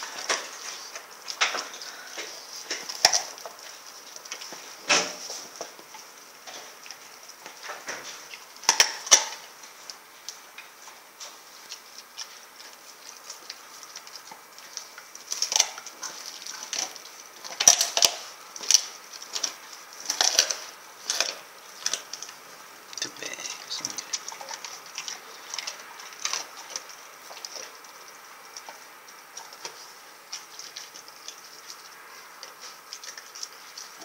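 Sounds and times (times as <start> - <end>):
dog crunching bones: 0.0 - 34.0.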